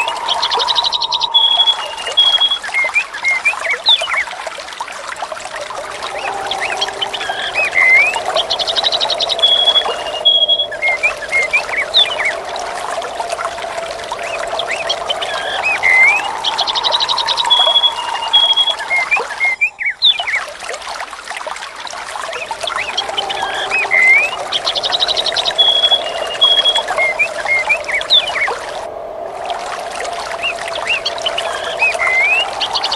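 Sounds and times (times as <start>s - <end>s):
birds chirping: 0.0s - 4.3s, 5.5s - 12.5s, 13.6s - 20.4s, 22.4s - 28.9s, 30.4s - 32.9s
water trickling: 0.0s - 32.9s.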